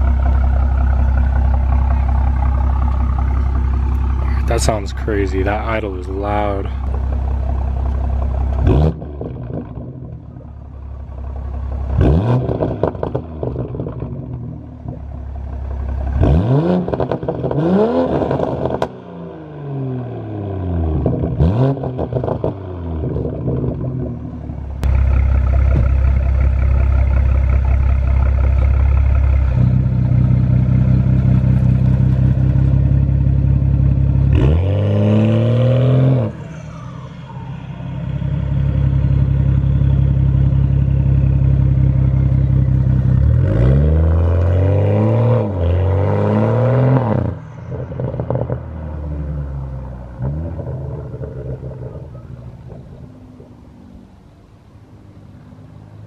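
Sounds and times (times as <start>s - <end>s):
car accelerating away: 0.0s - 10.5s, 11.2s - 54.6s
car engine revving: 0.0s - 53.5s.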